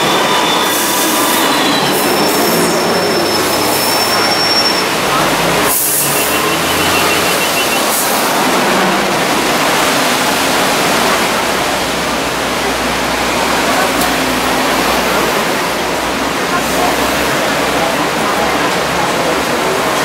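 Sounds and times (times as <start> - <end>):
rain: 0.0 - 20.0
street traffic: 0.0 - 20.0.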